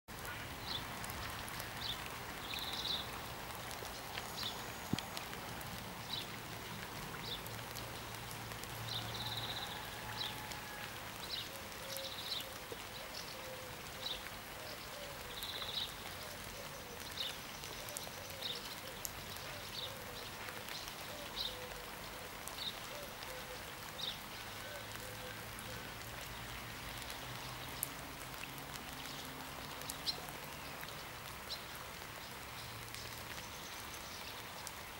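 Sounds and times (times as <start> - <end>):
rain hissing: 0.1 - 34.9.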